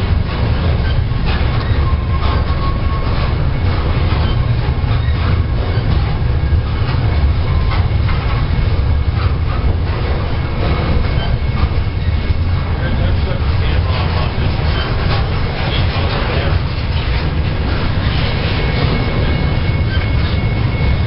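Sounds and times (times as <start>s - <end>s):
freight train rumbling: 0.0s - 21.0s
wheels clacking over rail joints: 0.0s - 21.0s.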